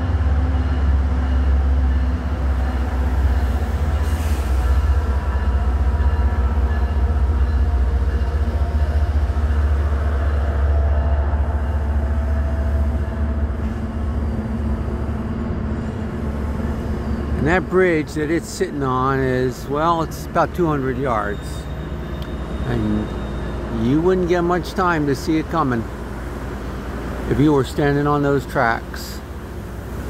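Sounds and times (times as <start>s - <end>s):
diesel locomotive engine rumbling: 0.0s - 30.0s.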